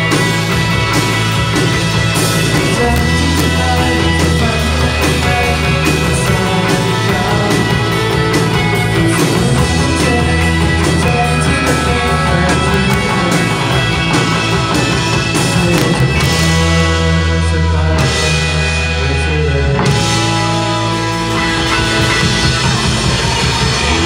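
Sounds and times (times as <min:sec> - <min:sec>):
drum kit beat: 0:00.0 - 0:17.2, 0:19.8 - 0:24.0
rock band playing live: 0:00.0 - 0:24.0.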